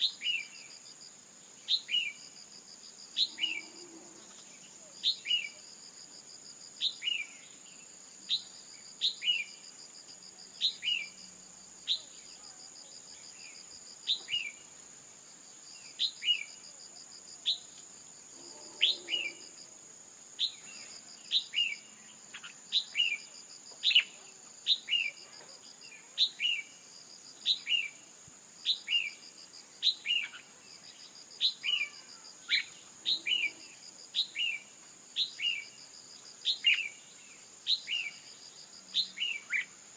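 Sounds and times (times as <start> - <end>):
high insect drone with trill: 0.0 - 39.9.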